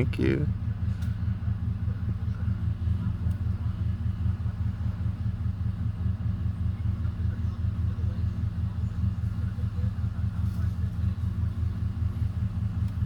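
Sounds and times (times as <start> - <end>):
low rumble with rapid flutter: 0.0 - 13.0.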